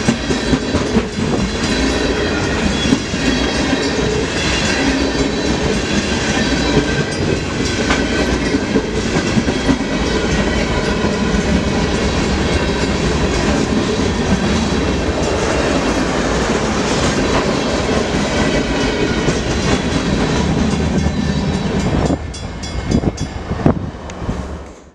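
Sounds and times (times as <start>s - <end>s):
freight train rolling past: 0.0s - 24.9s.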